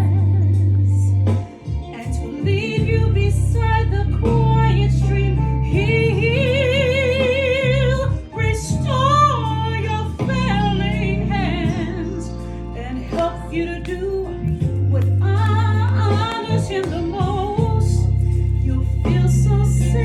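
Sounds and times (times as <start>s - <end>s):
sustained low accompaniment: 0.0s - 20.0s
woman singing a hymn: 0.0s - 20.0s.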